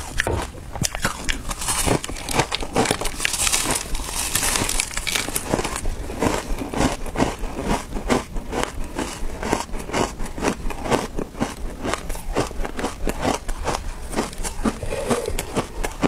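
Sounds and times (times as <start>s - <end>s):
chewing crunchy shaved ice: 0.0s - 16.0s.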